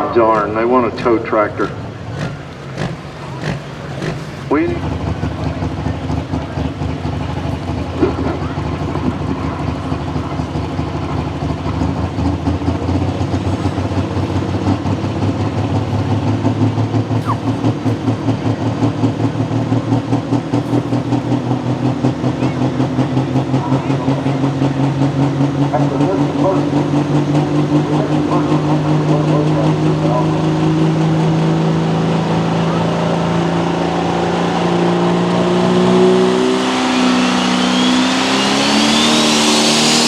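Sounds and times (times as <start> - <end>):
tractor engine idling: 0.0 - 40.0.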